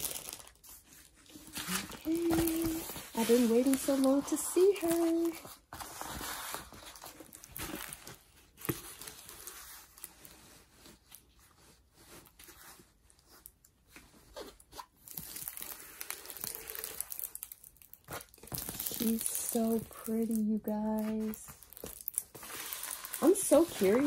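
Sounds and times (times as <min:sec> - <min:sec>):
plastic film crinkling and rustling: 0:00.0 - 0:24.0.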